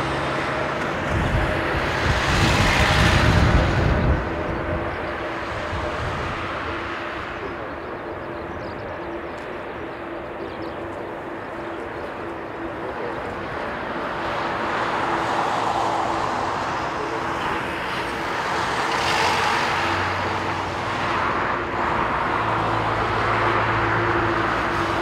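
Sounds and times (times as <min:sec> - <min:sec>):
jet engines at takeoff: 0:00.0 - 0:25.0.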